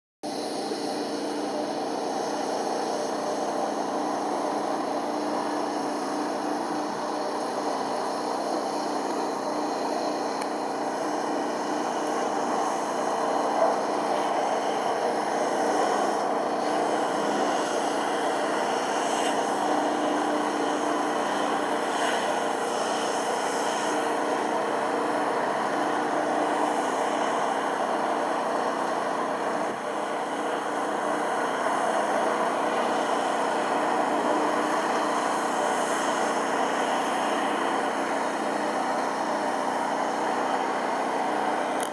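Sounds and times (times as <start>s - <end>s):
propeller engines droning: 0.3s - 41.9s.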